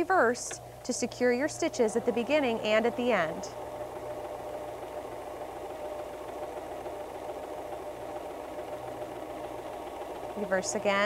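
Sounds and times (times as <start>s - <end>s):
sewing machine whirring: 0.0s - 11.0s.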